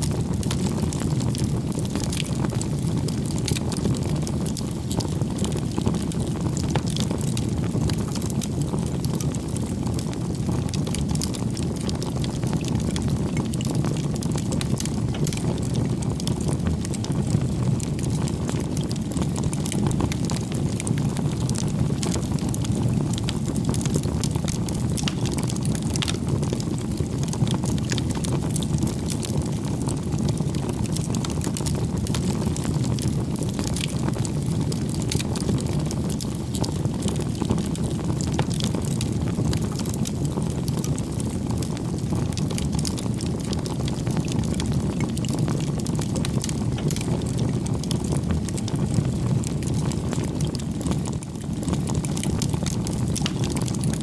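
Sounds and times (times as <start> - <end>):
burning wood crackling: 0.0 - 54.0
campfire flames rumbling: 0.0 - 54.0.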